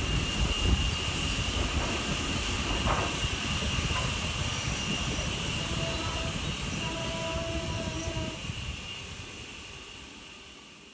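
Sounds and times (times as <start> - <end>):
wind buffeting microphone: 0.0 - 9.8
steam locomotive hiss and rumble: 0.0 - 10.9.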